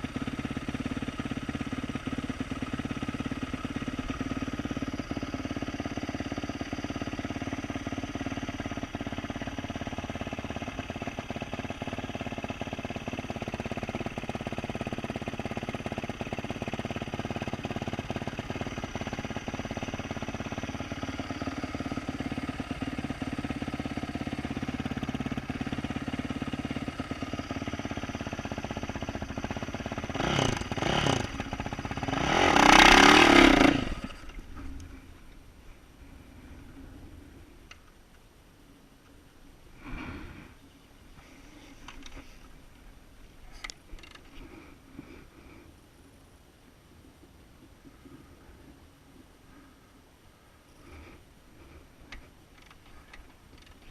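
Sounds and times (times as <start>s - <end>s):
motorcycle engine idling and revving: 0.0s - 38.1s, 39.8s - 46.2s, 50.7s - 53.9s.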